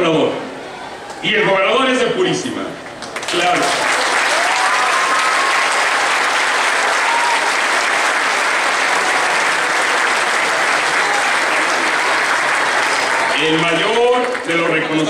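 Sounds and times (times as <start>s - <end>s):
audience applauding: 2.9s - 15.0s.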